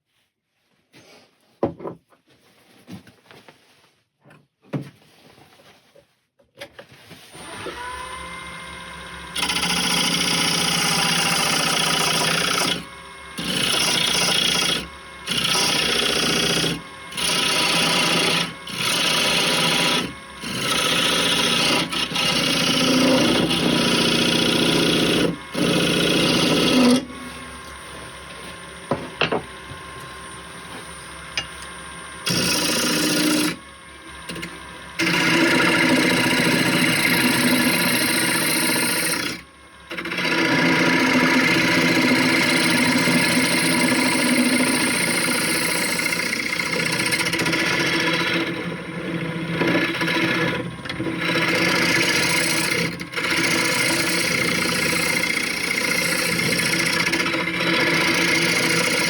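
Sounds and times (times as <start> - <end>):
tool scraping spinning wood: 6.8 - 59.0
wood lathe motor whine: 7.3 - 59.0.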